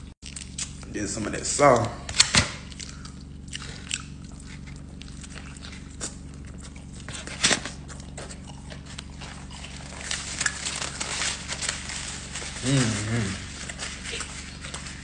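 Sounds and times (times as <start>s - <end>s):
steady low hum: 0.0s - 15.0s
wet chewing: 0.2s - 15.0s.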